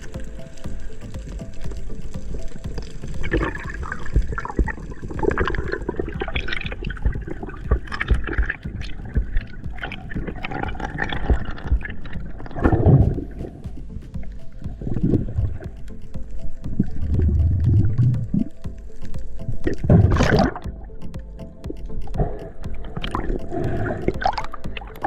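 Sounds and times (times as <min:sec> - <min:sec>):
small clicks and knocks: 0:00.0 - 0:25.0
water gurgling and sloshing: 0:00.0 - 0:25.0.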